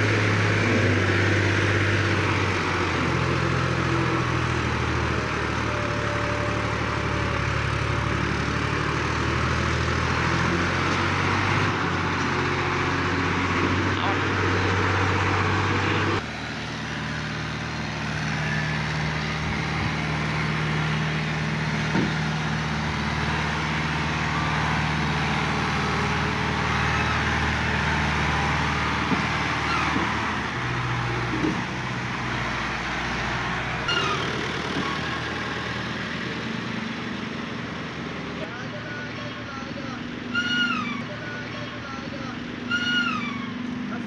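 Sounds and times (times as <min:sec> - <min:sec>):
diesel tractor engines running: 0:00.0 - 0:44.0.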